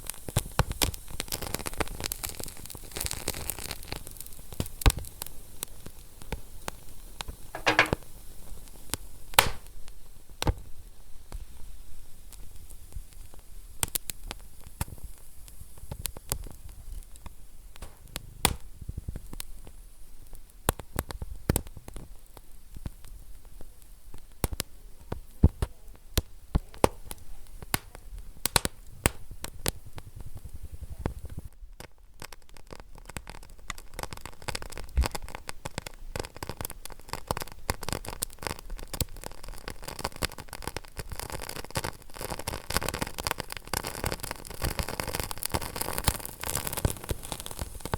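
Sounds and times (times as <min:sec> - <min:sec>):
low steady hiss: 0:00.0 - 0:47.9
wood fire crackling and popping: 0:00.0 - 0:47.9.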